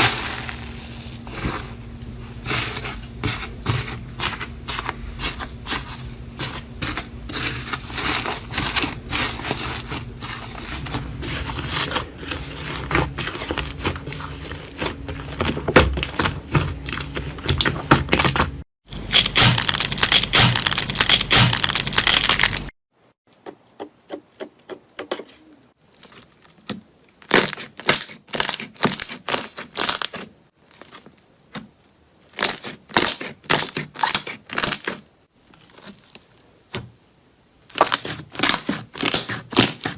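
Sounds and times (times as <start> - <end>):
crunchy slime and soap crackling: 0.0 - 22.8, 25.8 - 39.9.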